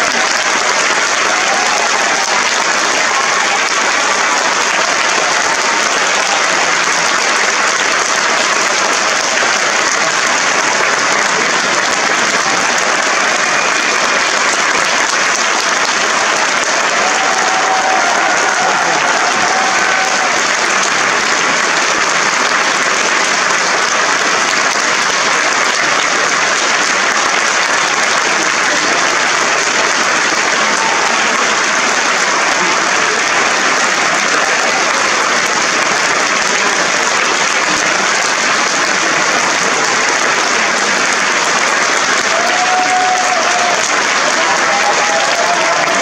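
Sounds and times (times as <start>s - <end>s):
audience applauding: 0.0s - 46.0s.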